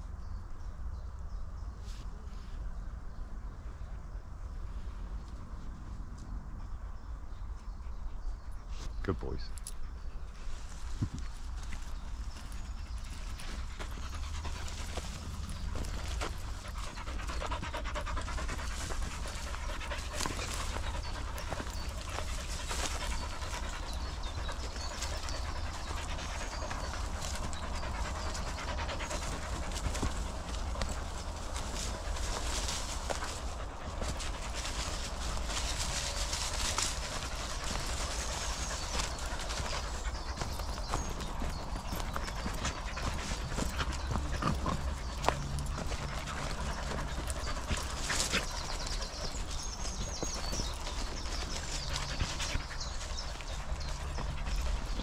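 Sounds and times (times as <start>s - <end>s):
dog panting: 9.6s - 55.0s
footsteps on dirt path: 10.2s - 55.0s.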